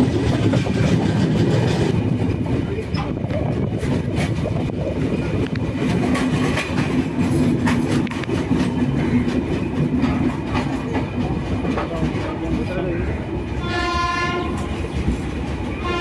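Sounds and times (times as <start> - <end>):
train low rumble: 0.0 - 16.0
wheels clicking over rail joints: 0.0 - 16.0.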